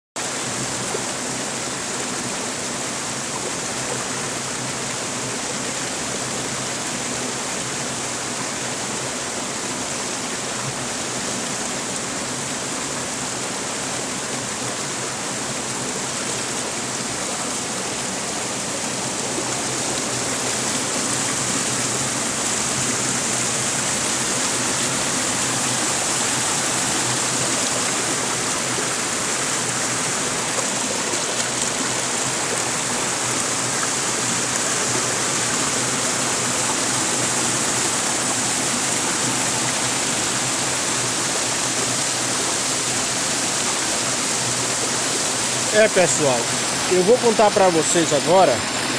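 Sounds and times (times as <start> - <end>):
stream rushing over rocks: 0.2 - 48.9.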